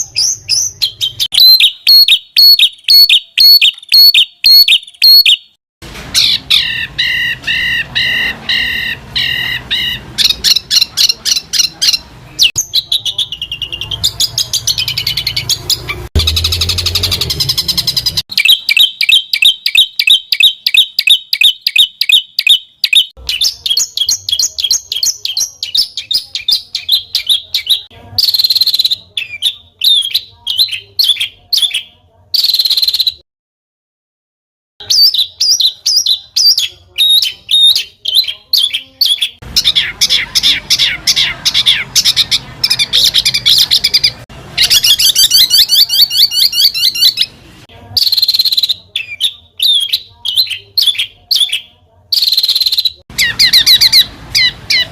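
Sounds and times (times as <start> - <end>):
songbird chirps and trills: 0.0 - 5.6, 6.2 - 33.2, 34.8 - 54.9.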